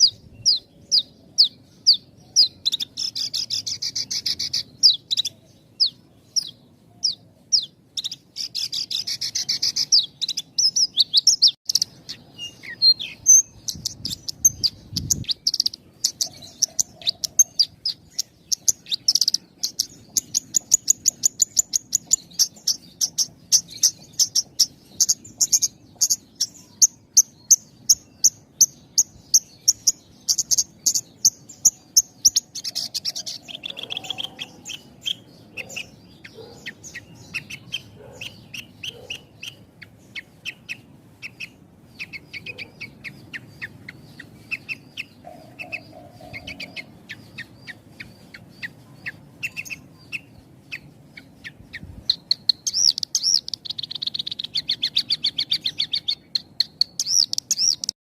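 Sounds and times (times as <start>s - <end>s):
bird singing high chirps: 0.0s - 58.0s.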